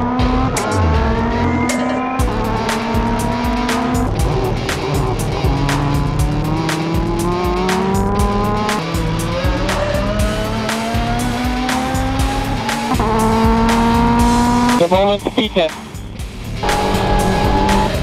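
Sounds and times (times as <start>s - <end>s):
racing car engine revving: 0.0s - 15.4s, 16.4s - 18.0s
background music with beat: 0.0s - 18.0s.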